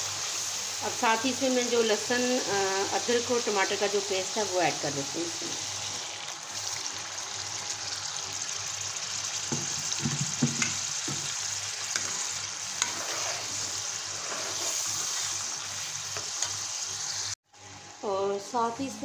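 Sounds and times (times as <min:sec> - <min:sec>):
masala sizzling in hot oil: 0:00.0 - 0:18.0.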